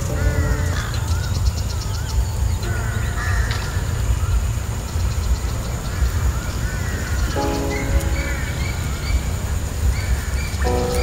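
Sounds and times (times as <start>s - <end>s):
crows cawing: 0.0s - 4.5s, 5.8s - 11.0s
birds whistling: 0.0s - 11.0s.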